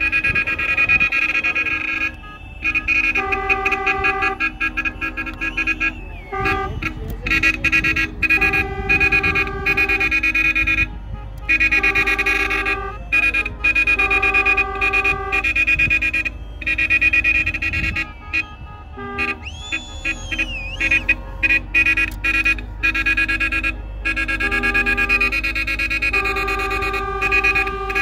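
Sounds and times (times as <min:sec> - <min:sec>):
car horns honking: 0:00.0 - 0:28.0.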